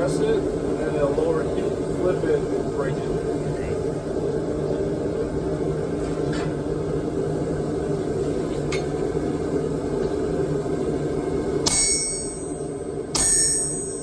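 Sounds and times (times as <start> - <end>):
forge humming: 0.0 - 14.0.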